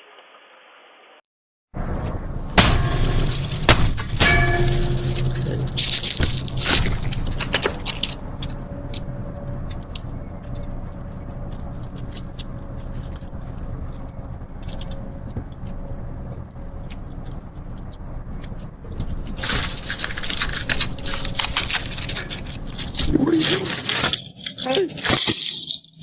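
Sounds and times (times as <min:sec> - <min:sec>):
low background rumble: 0:01.8 - 0:25.0.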